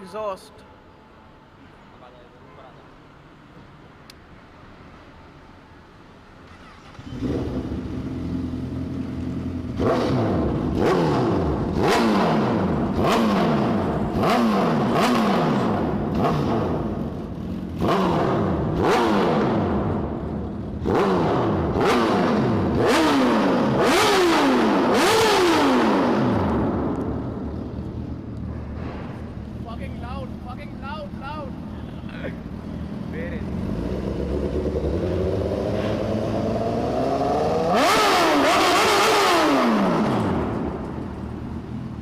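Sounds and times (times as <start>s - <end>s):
motorcycle engine revving: 6.5s - 30.8s, 31.5s - 42.0s.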